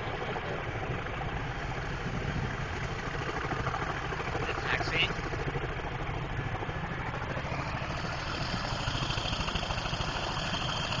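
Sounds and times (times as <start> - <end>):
helicopter rotor beat: 0.0 - 11.0
turbine noise: 0.0 - 11.0.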